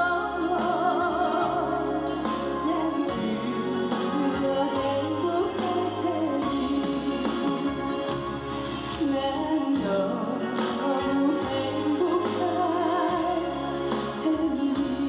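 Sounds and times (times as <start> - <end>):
trot music over stage speakers: 0.0 - 15.0.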